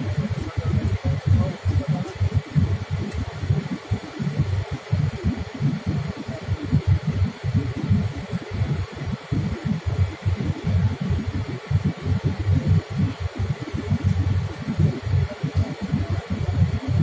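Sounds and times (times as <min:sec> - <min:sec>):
low rumble pulsing: 0:00.0 - 0:17.0.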